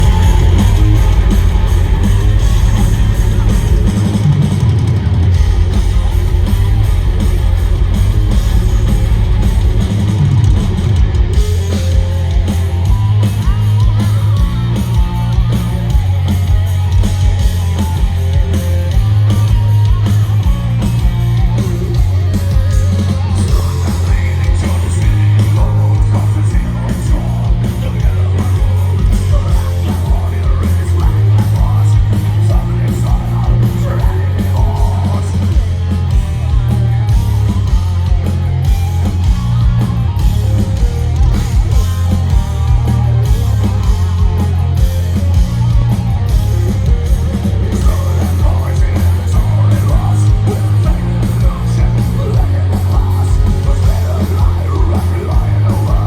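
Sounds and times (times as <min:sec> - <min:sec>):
bass: 0:00.0 - 0:56.0
distorted electric guitars: 0:00.0 - 0:56.0
heavy driving drum kit: 0:00.0 - 0:56.0.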